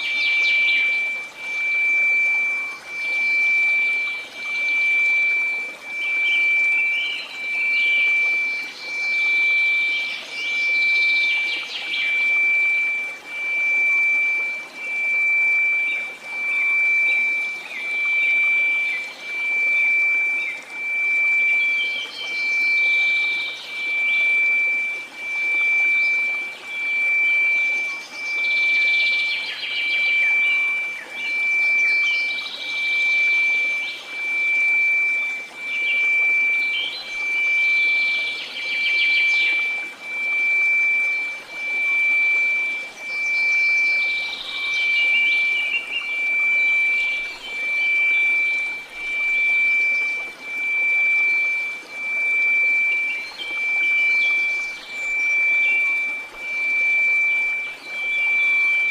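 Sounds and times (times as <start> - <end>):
bird chirps: 0.0 - 58.9
pulsing sine tone: 0.0 - 58.9.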